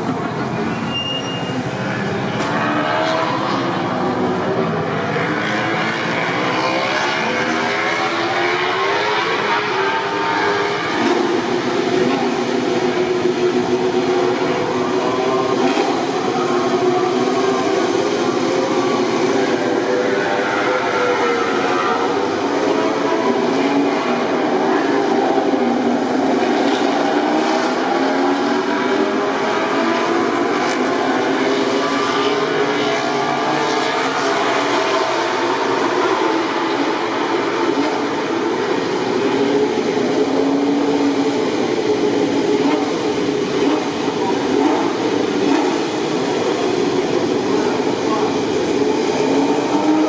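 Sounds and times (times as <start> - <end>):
racing motorcycle engines: 0.0 - 50.0.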